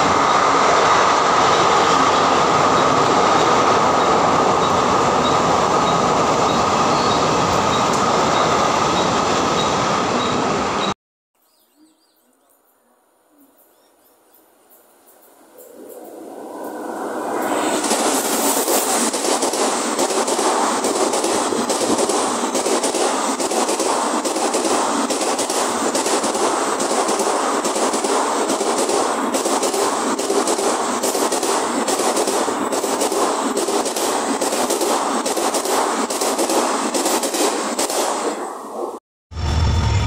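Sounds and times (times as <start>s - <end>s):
train wheels rushing on rail: 0.0s - 11.0s, 15.5s - 40.0s.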